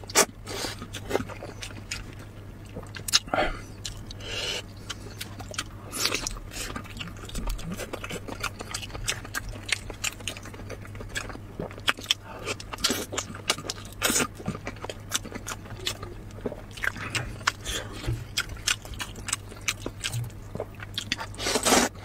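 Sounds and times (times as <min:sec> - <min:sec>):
wet biting and chewing: 0:00.0 - 0:21.9.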